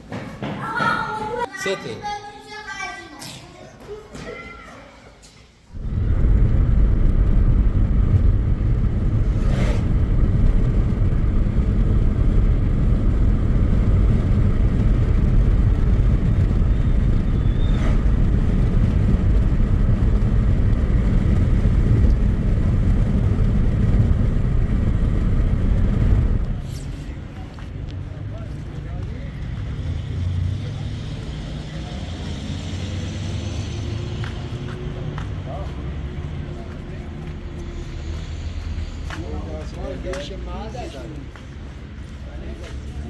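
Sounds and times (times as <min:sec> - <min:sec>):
engine and road noise rumble: 0:05.7 - 0:43.0.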